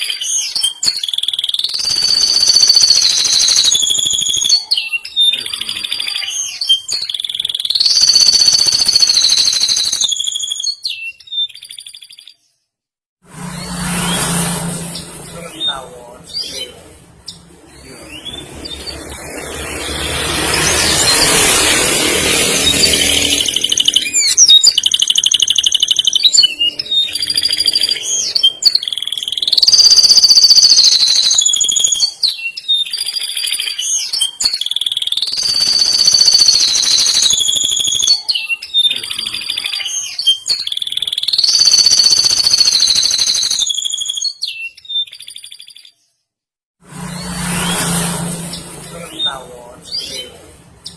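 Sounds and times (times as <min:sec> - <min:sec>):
canary singing trills: 0:00.0 - 0:12.6, 0:14.8 - 0:46.2, 0:47.6 - 0:50.9.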